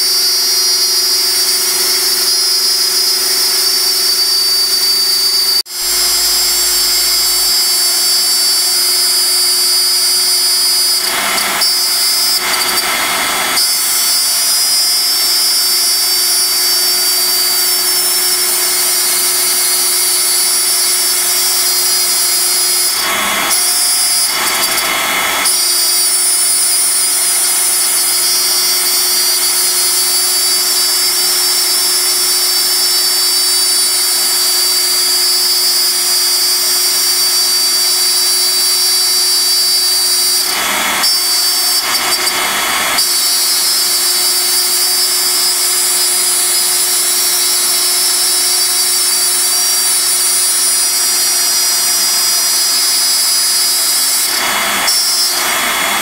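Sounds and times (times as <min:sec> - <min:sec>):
cnc router cutting wood: 0:00.0 - 0:56.0
dust collection vacuum running: 0:00.0 - 0:56.0
high motor whine: 0:00.0 - 0:56.0.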